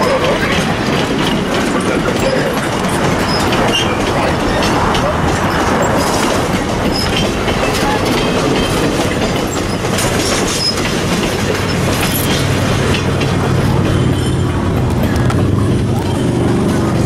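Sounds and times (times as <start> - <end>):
train cars rumbling: 0.0 - 17.0
wheels clicking over rail joints: 0.0 - 17.0
high wheel squeals: 2.1 - 12.7, 13.5 - 16.9.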